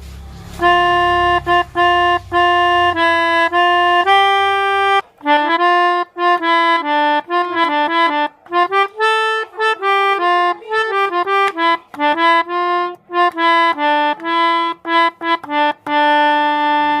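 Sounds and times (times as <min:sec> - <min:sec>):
multi-tone bus horn tune: 0:00.0 - 0:17.0.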